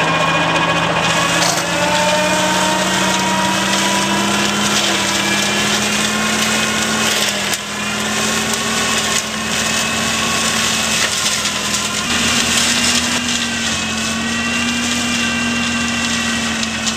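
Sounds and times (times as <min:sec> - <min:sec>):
flail mower humming: 0:00.0 - 0:16.9
hiss of cut grass: 0:01.1 - 0:16.9.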